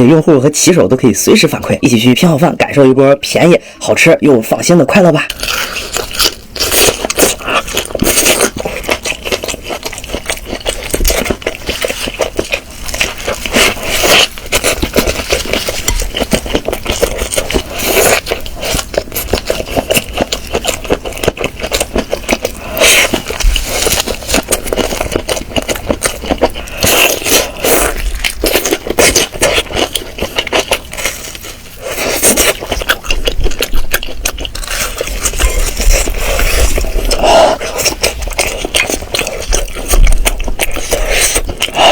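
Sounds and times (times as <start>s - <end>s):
chewing chicken close up: 5.0s - 41.9s.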